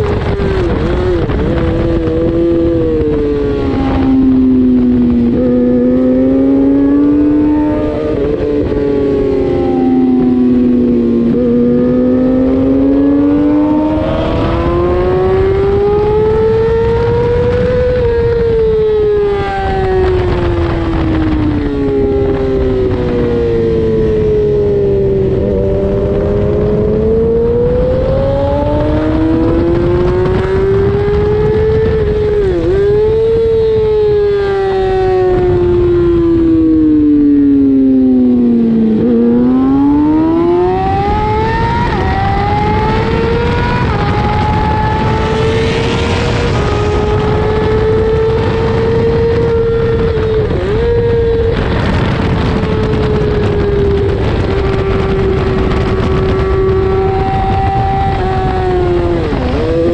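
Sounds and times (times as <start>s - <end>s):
motorcycle engine racing: 0.0s - 59.9s
wind rushing: 0.0s - 59.9s.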